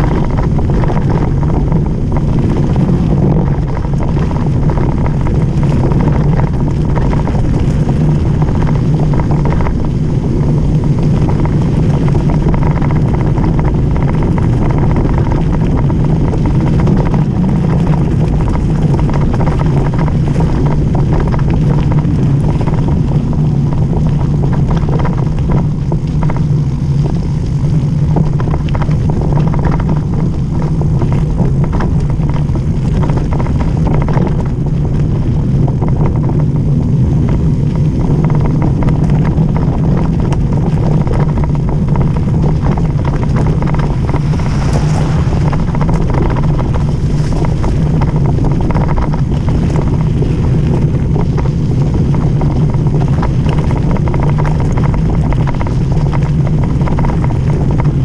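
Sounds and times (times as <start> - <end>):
bike tyres rolling on gravel: 0.0 - 58.0
stones and bike rattling: 0.0 - 58.0
wind rumble on microphone: 0.0 - 58.0.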